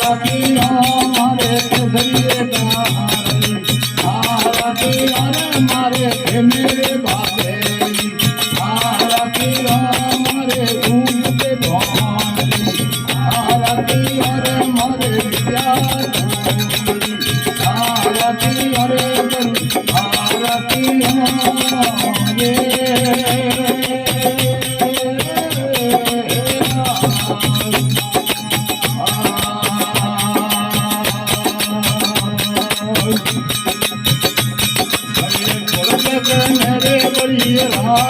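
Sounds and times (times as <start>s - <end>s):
fast jingling percussion: 0.0s - 38.0s.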